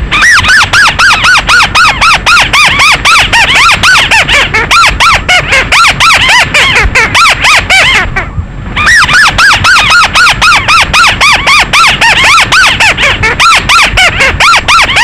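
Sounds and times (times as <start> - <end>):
bird squeaky call notes: 0.1 - 15.0.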